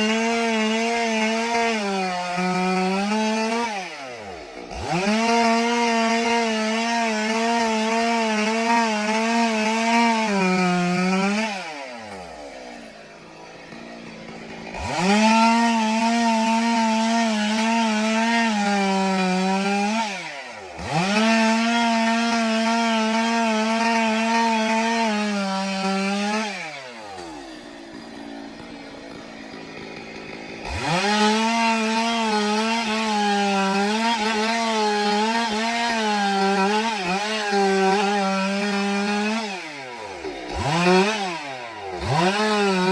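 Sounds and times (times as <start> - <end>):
chainsaw cutting timber: 0.0 - 42.9.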